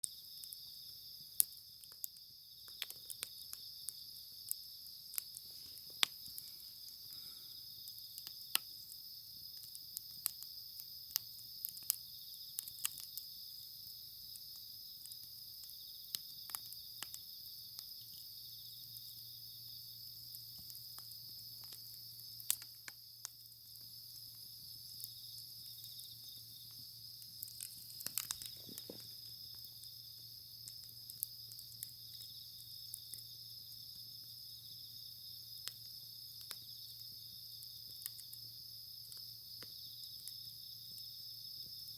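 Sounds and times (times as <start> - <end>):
high-pitched insect chorus: 0.0 - 41.9
wood fire crackling and popping: 0.0 - 41.9.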